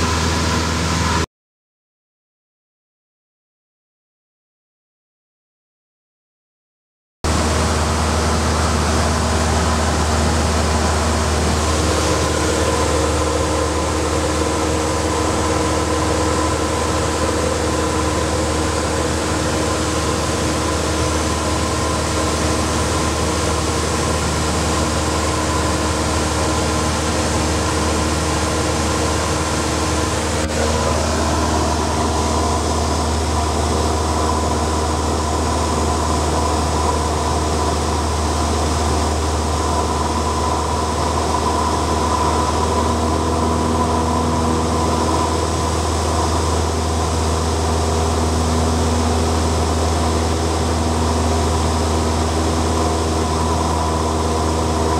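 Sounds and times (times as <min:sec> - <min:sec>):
light aircraft engine droning: 0:00.0 - 0:01.2, 0:07.3 - 0:54.9.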